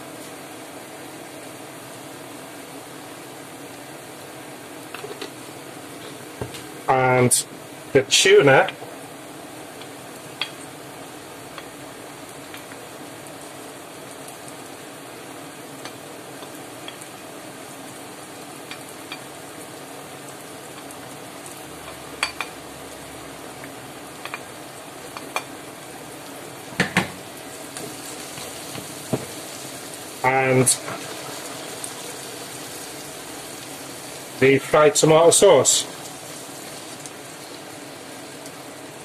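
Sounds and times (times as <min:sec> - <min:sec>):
food sizzling in frying pan: 0:00.0 - 0:39.0.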